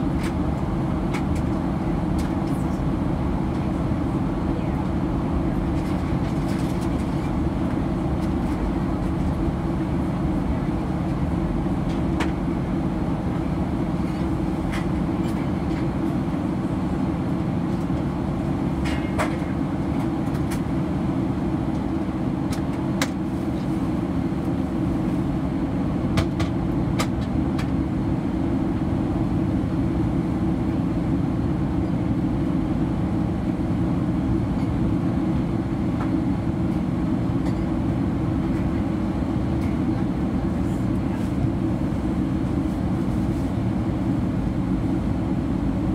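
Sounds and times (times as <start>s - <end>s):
airplane cabin engine roar: 0.0s - 45.9s.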